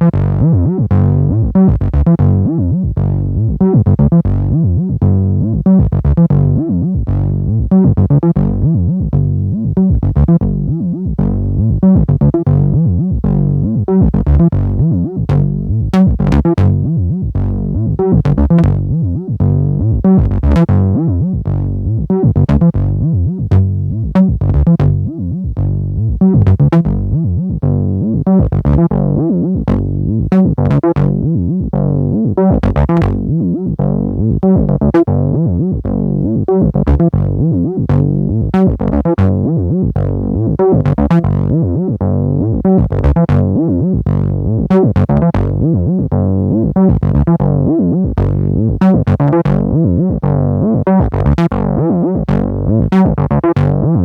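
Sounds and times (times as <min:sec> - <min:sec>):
synthesiser acid bassline: 0:00.0 - 0:54.0.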